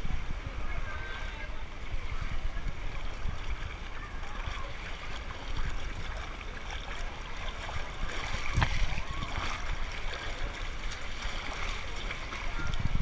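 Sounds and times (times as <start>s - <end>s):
running splashing water: 0.0s - 13.0s.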